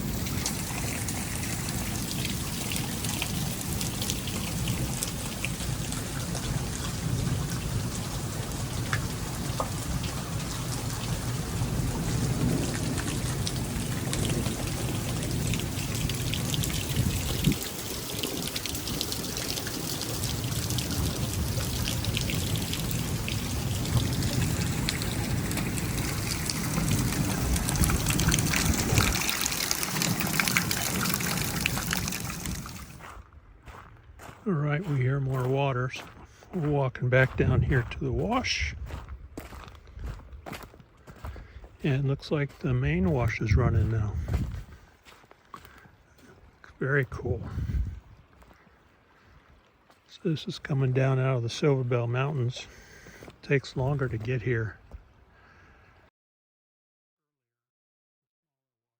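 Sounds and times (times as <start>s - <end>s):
raindrops hitting: 0.0s - 33.1s, 40.8s - 55.1s
low rumble of rain: 0.0s - 56.1s.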